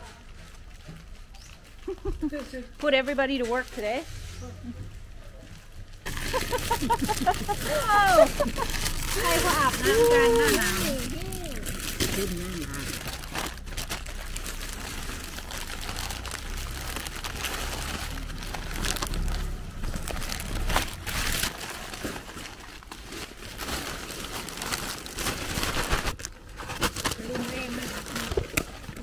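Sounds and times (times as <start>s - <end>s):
plastic bags crinkling: 0.0s - 3.8s, 5.5s - 29.0s.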